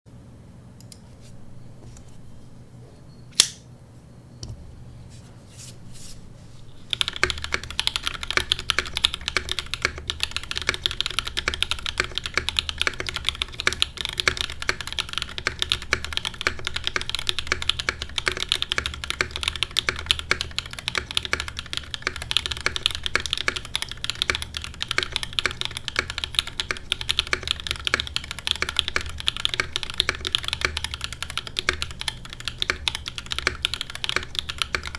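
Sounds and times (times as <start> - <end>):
keyboard clicks: 6.9 - 34.9
mechanical keyboard typing: 6.9 - 34.9.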